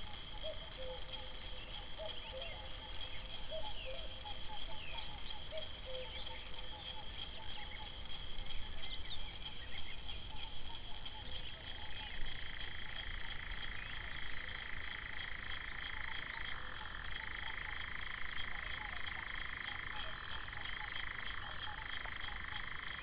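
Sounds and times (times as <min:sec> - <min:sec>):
high-pitched frog chorus: 0:00.0 - 0:23.0
lower-pitched frog chorus: 0:00.0 - 0:23.0.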